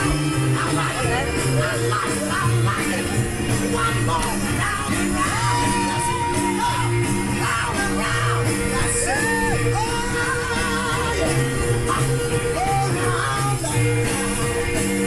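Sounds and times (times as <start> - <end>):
people yelling: 0.0 - 14.2
music with bass beat and singing: 0.0 - 15.0.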